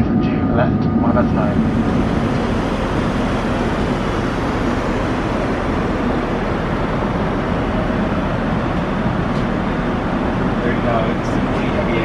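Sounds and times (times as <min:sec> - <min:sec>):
low engine hum: 0:00.0 - 0:12.0
rush of air in cabin: 0:00.0 - 0:12.0.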